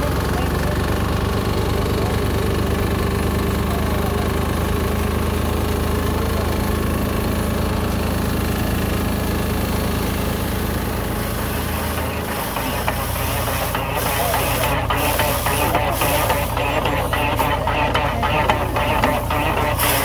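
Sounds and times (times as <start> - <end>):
combine harvester engine running: 0.0 - 20.0.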